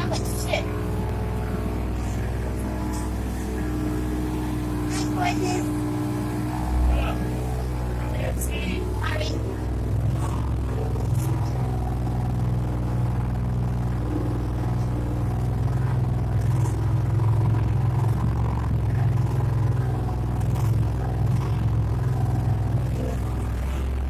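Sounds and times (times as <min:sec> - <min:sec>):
motorboat engine droning: 0:00.0 - 0:24.0.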